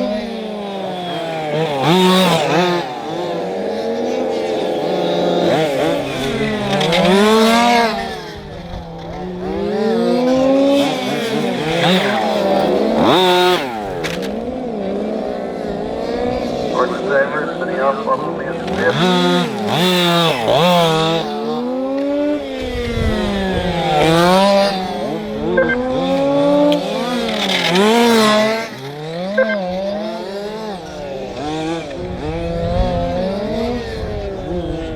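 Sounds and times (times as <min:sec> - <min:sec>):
radio-controlled models whining: 0:00.0 - 0:34.9.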